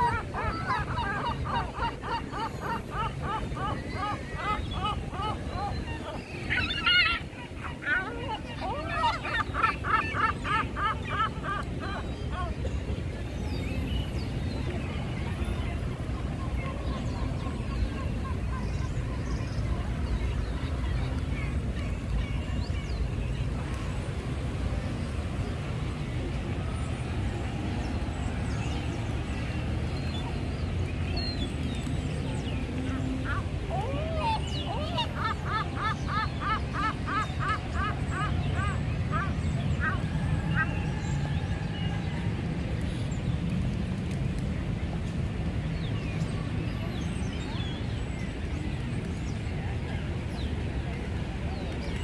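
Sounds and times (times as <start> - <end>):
murmur of people: 0.0 - 43.9
traffic rumble: 0.0 - 52.0.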